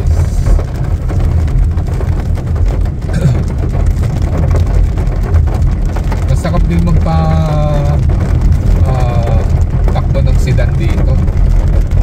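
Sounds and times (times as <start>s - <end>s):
car engine and tyres on wet road: 0.0s - 12.0s
rain and spray hiss: 0.0s - 12.0s.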